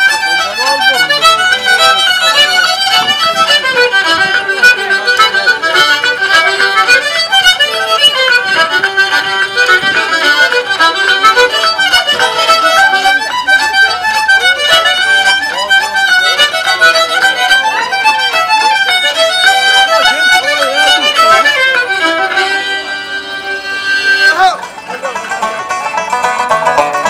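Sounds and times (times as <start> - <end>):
lively fiddle tune: 0.0 - 27.0.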